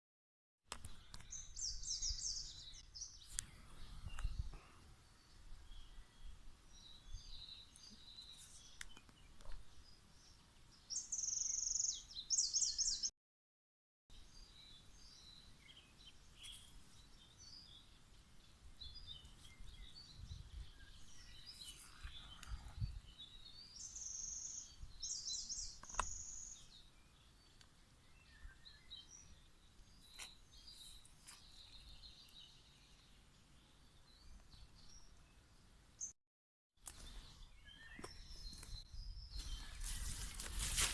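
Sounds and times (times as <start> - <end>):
songbirds chirping: 0.7 - 13.1, 14.1 - 36.2, 36.8 - 40.9
bird song phrases with trill: 0.8 - 13.1, 14.1 - 36.2, 36.9 - 40.1.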